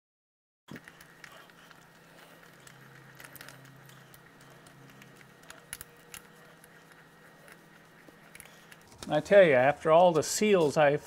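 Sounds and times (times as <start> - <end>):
low steady hum: 0.7 - 11.0.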